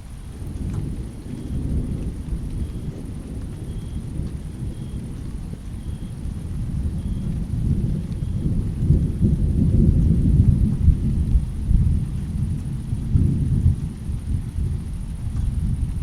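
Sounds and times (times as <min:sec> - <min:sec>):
rolling thunder: 0:00.0 - 0:16.0.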